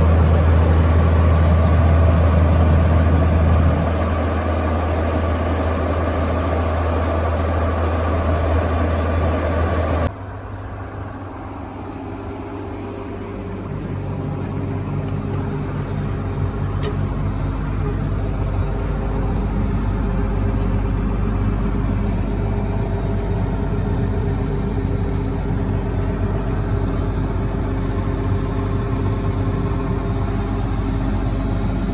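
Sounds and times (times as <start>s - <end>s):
combine diesel engine running: 0.0s - 31.9s.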